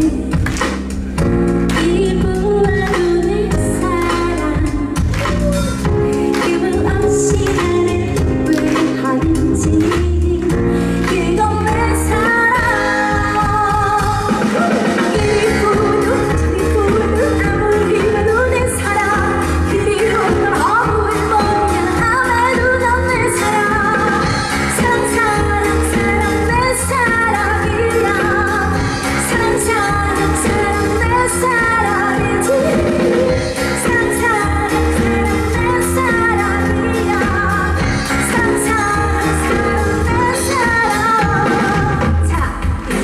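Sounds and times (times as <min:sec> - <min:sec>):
woman singing into a microphone: 0:00.0 - 0:00.7, 0:01.6 - 0:43.0
amplified pop backing music: 0:00.0 - 0:43.0.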